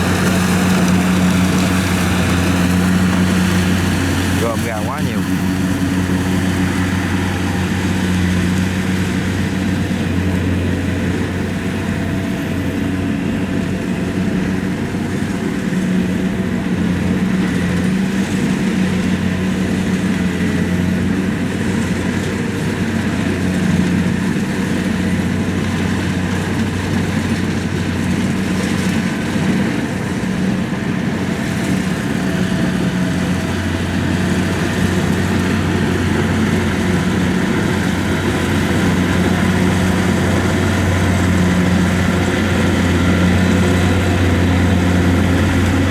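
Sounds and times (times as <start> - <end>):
combine harvester engine running: 0.0 - 45.9.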